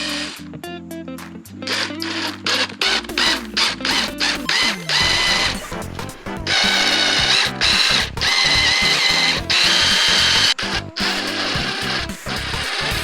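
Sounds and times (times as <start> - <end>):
background music: 0.0 - 13.0
power drill whining: 1.7 - 5.6, 6.5 - 13.0.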